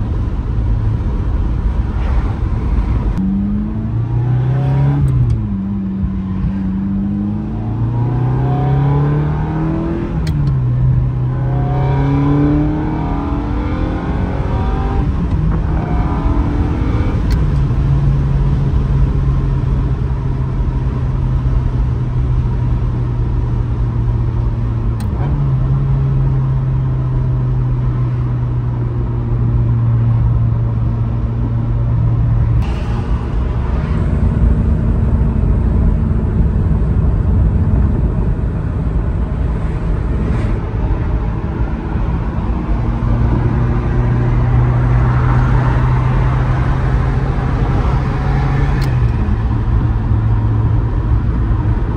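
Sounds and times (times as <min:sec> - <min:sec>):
car engine drone: 0:00.0 - 0:51.9.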